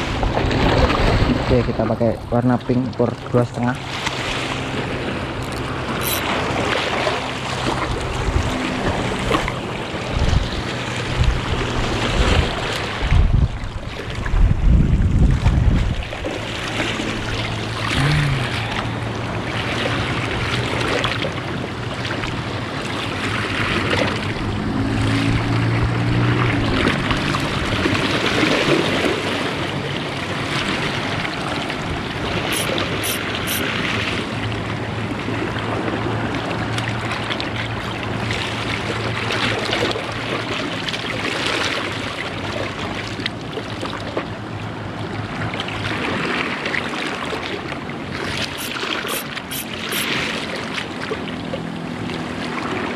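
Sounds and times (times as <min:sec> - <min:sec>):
low motor hum: 0:00.0 - 0:52.9
waves splashing against rocks: 0:00.0 - 0:52.9.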